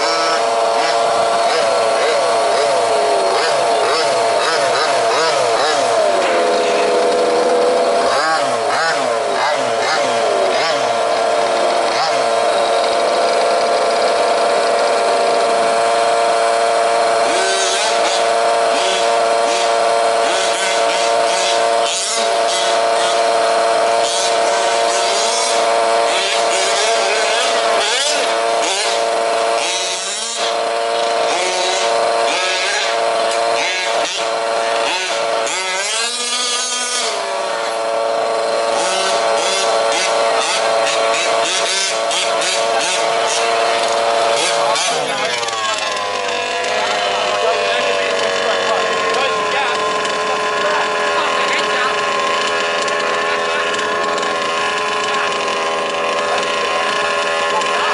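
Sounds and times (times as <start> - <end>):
small engine idling: 0.0 - 57.9
small engines revving: 0.0 - 57.9.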